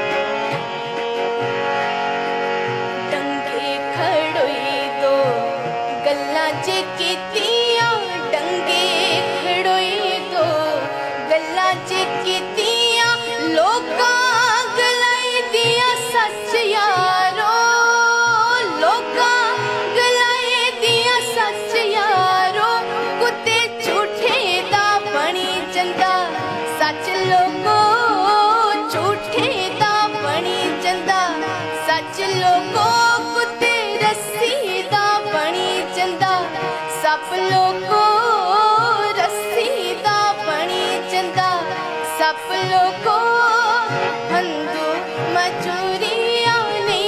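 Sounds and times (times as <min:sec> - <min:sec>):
harmonium held notes: 0:00.0 - 0:47.0
woman singing: 0:03.1 - 0:47.0.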